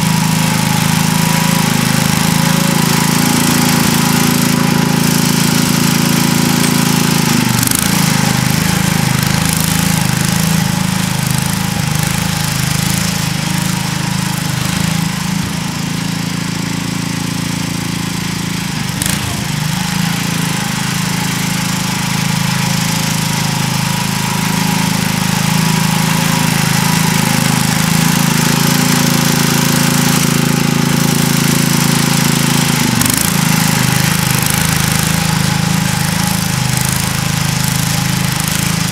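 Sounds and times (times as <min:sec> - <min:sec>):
garden tractor engine running: 0:00.0 - 0:38.9.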